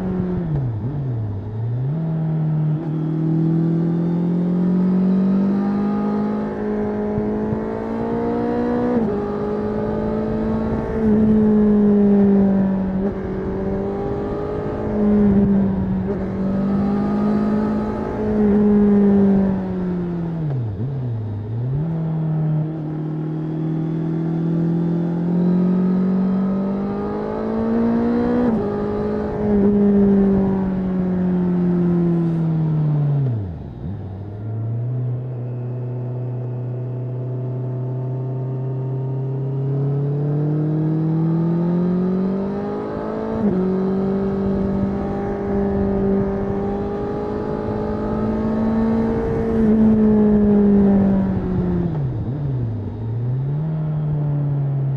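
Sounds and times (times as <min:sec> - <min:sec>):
motorcycle engine revving and shifting: 0:00.0 - 0:54.9.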